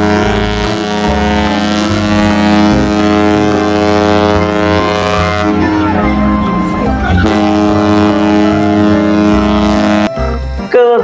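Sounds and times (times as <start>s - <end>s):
ship's horn blast: 0.0s - 10.4s
low shifting notes: 0.0s - 10.8s.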